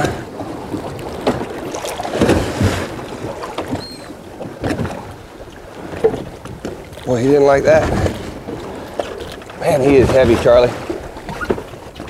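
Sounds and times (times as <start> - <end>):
water sloshing against hull: 0.0 - 12.0.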